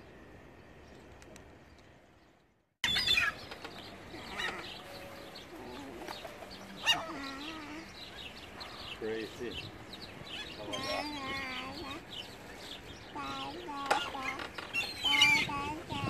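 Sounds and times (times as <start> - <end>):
outdoor background noise: 0.0 - 16.0
gulls calling: 2.8 - 16.0.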